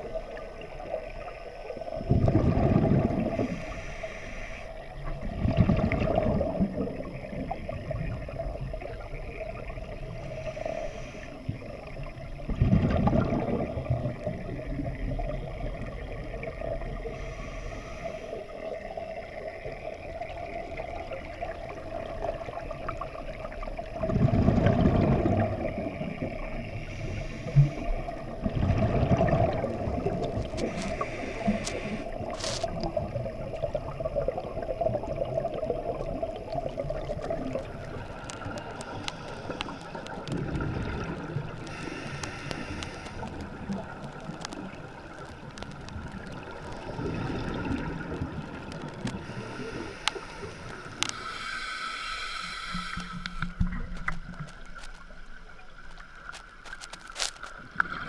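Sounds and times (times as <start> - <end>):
bubbles gurgling underwater: 0.0 - 3.6, 4.8 - 10.3, 11.4 - 17.2, 18.5 - 51.1.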